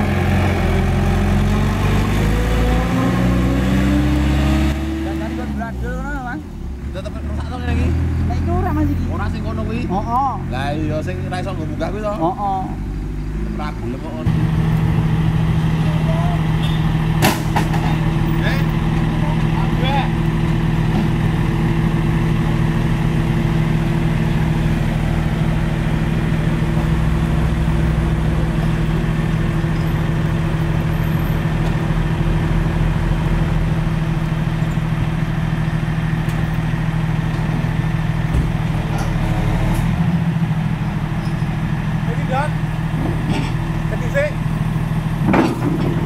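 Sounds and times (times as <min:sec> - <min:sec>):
diesel engine idling: 0:05.0 - 0:46.0.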